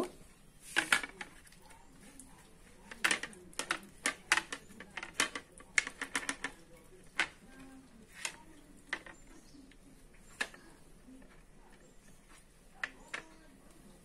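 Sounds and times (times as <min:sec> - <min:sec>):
faint sharp clicks and taps: 0:00.0 - 0:14.0.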